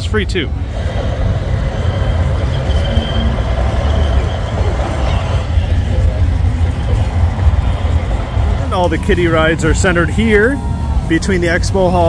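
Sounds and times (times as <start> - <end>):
faint fairground noise: 0.0 - 12.0.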